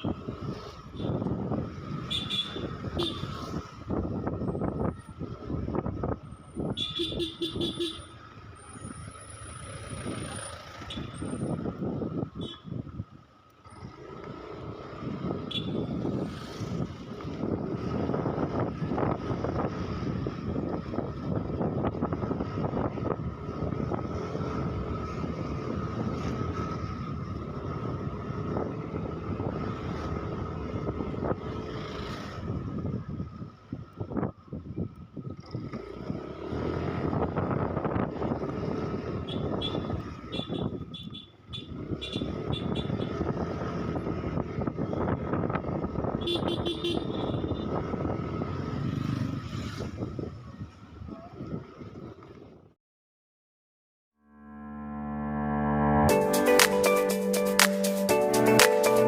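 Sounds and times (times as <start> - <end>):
other vehicles passing: 0.0 - 52.7
motorcycle engine and road noise: 0.0 - 52.8.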